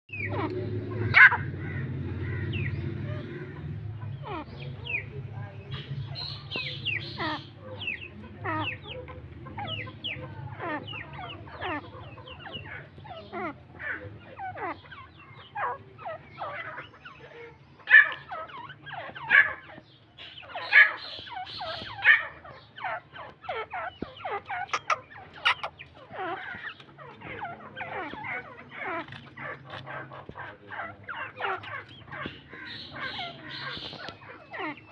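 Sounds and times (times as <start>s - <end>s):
francolin calling: 5.7s - 34.9s.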